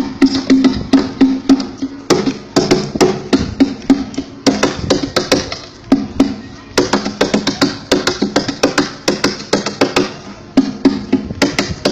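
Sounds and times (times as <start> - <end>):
sharp rhythmic percussion knocks: 0.0 - 11.9.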